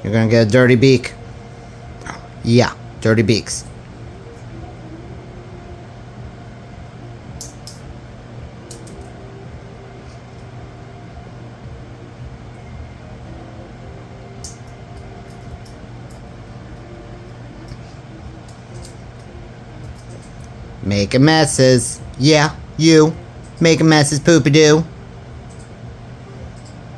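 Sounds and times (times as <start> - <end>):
low room hum: 0.0 - 26.9.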